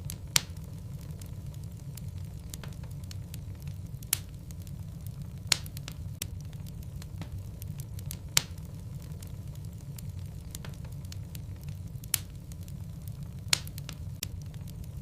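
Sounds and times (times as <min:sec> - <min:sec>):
logs crackling in fireplace: 0:00.0 - 0:15.0
loud fire pops: 0:00.0 - 0:15.0
low steady rumble: 0:00.0 - 0:15.0.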